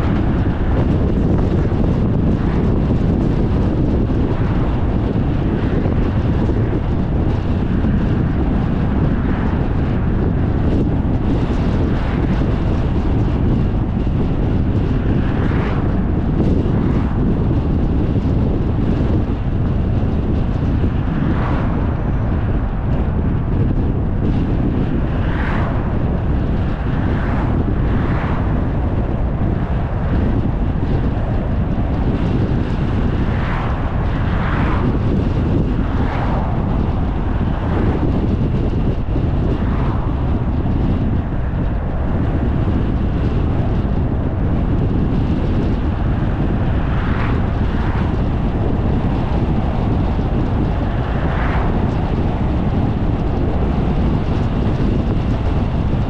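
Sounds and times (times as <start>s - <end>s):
wind and road rumble in car: 0.0s - 56.0s.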